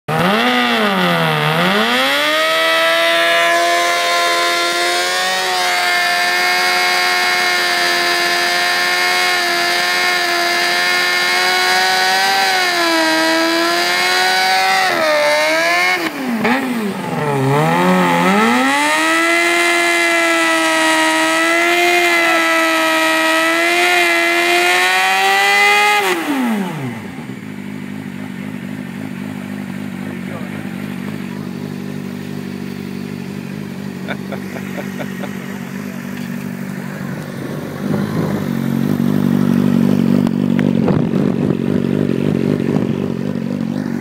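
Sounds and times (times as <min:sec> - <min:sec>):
motorcycle engine revving high: 0:00.1 - 0:44.0.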